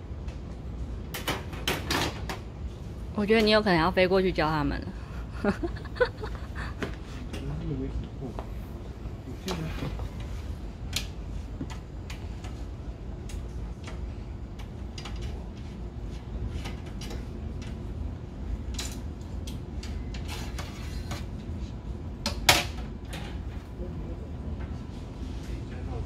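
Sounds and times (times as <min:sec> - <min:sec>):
low background hum: 0:00.0 - 0:26.0.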